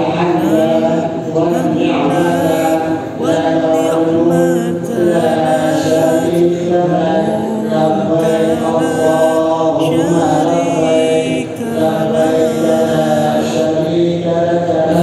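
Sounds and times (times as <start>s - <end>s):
devotional chanting: 0.0s - 15.0s.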